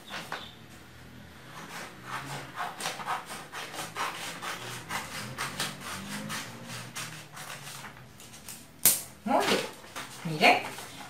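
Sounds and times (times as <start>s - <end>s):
scissors snipping paper: 1.6s - 11.0s.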